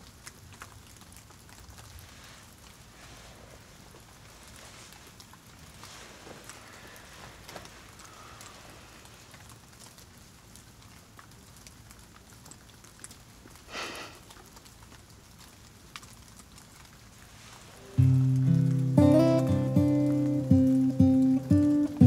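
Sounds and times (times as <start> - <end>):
faint steady hiss: 0.0 - 22.0
soft rustle: 0.2 - 21.8.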